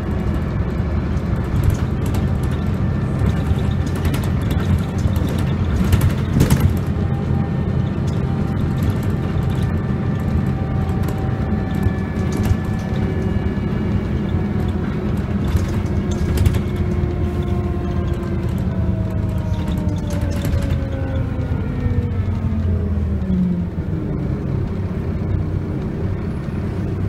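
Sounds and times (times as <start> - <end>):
bus engine rumble and whine: 0.0 - 27.0
body rattles and knocks: 0.2 - 22.6.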